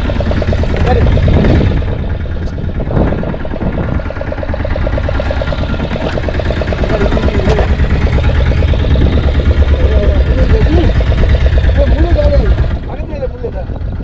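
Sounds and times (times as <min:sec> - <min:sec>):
boat engine idling: 0:00.0 - 0:14.0
steady low rumble: 0:00.0 - 0:14.0.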